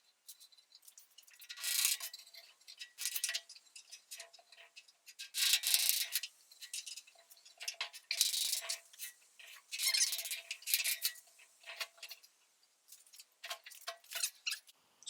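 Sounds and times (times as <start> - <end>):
hand tools clicking and scraping metal: 0.0 - 12.3, 12.9 - 14.8.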